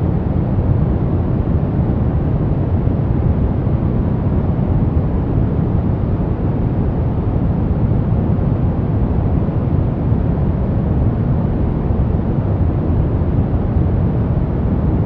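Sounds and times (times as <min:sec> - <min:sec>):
brown noise rumbling hiss: 0:00.0 - 0:15.0.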